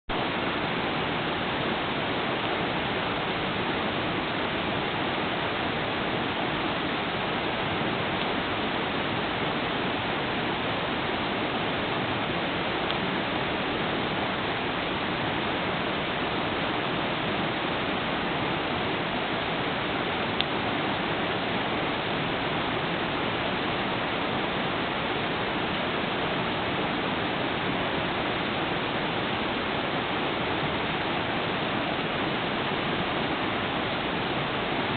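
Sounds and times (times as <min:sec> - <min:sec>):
river flowing: 0:00.1 - 0:34.9.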